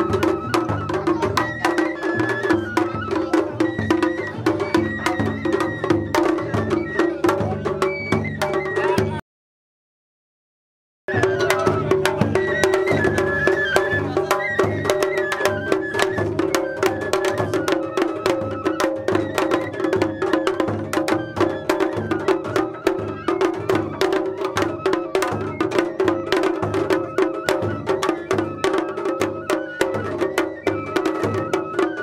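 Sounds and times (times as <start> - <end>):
bamboo flute melody: 0.0 - 9.2, 11.1 - 32.0
drums beaten rapidly with sticks: 0.0 - 9.2, 11.1 - 32.0.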